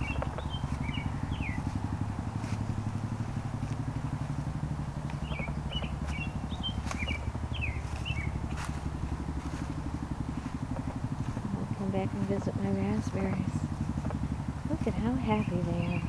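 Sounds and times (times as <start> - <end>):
engine running with low throb: 0.0 - 16.0
small birds chirping: 0.0 - 16.0.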